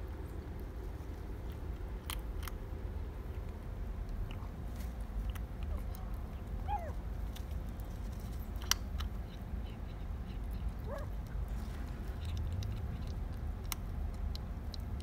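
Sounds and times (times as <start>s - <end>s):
kitten crunching kibble: 0.0s - 15.0s
steady low rumble: 0.0s - 15.0s.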